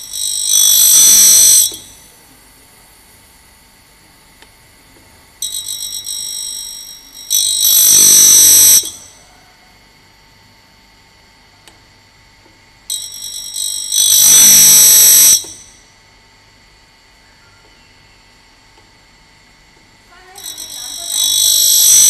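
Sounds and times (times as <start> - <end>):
faint grinder motor hum: 0.0 - 22.0.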